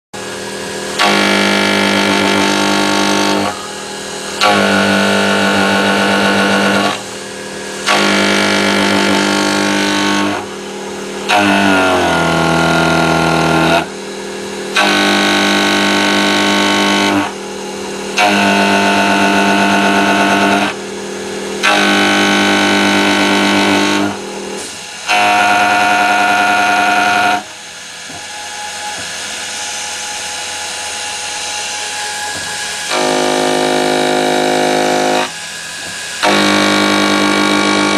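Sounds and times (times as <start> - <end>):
milling machine whining: 0.2 - 37.9.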